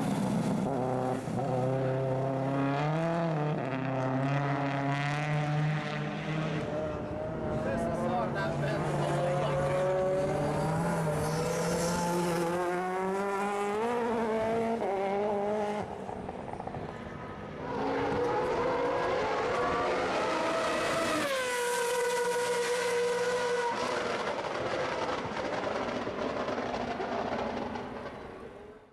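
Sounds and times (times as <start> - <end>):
racing car engines at high revs: 0.0 - 28.3.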